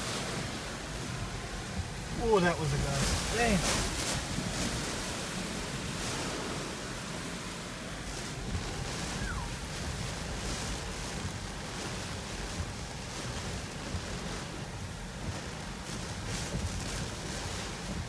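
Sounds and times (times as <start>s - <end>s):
strong wind rushing: 0.0s - 18.0s
wind buffeting microphone: 0.0s - 18.0s.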